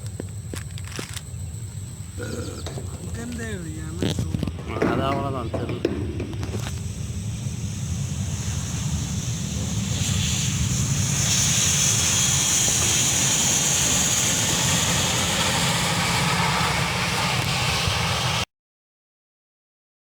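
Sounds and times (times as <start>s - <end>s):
high engine hiss: 0.0s - 18.4s
airliner engines rumbling: 0.0s - 18.5s.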